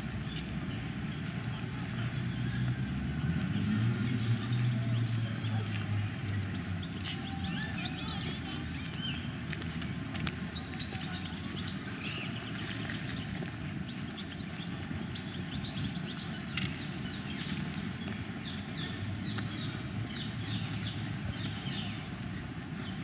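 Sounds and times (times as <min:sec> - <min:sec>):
low outdoor background noise: 0:00.0 - 0:23.0
small birds chirping: 0:03.8 - 0:23.0.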